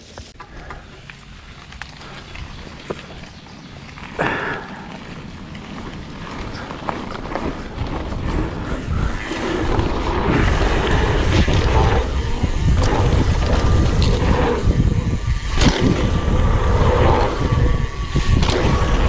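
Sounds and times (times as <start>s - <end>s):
bike tyre rumble on trail: 0.0s - 19.0s
wind buffeting microphone: 1.2s - 19.0s.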